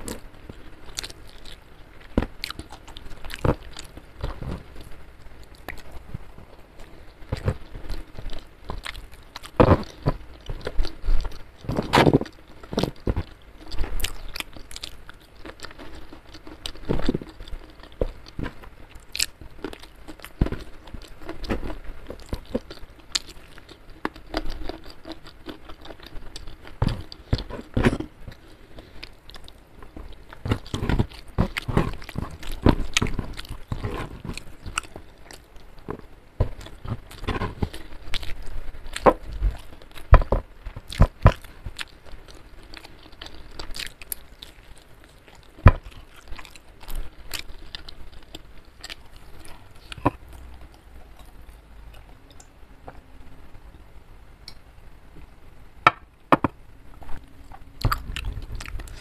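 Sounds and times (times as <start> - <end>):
crunchy bites and chewing: 0.0 - 52.5, 57.1 - 59.0.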